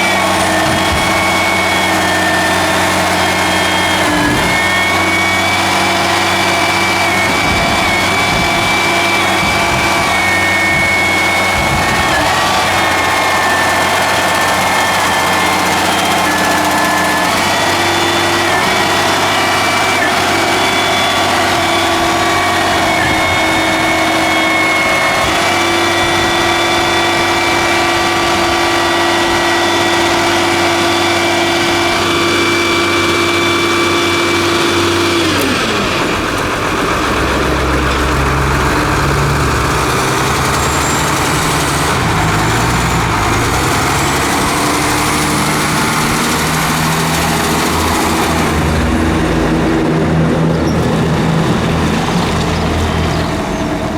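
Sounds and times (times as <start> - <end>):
diesel engine running: 0.0 - 53.9
hydraulic pump whining: 0.0 - 53.9.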